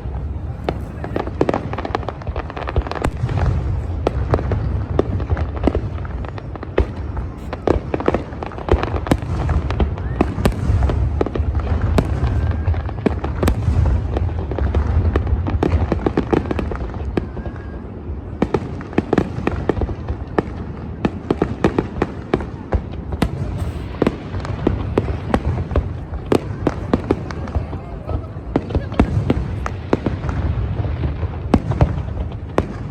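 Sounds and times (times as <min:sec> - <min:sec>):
fireworks bangs and crackling pops: 0:00.0 - 0:32.9.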